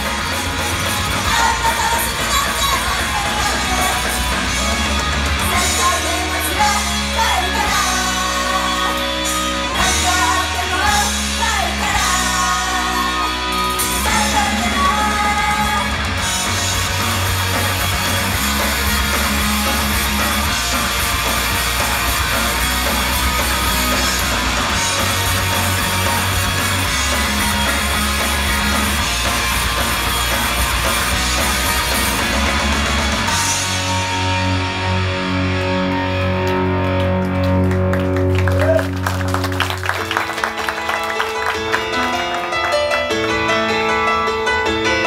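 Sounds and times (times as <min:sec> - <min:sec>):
bass line: 0:00.0 - 0:40.6
distorted electric guitar: 0:00.0 - 0:45.0
drums: 0:00.0 - 0:45.0
heavy rock song: 0:00.0 - 0:45.0.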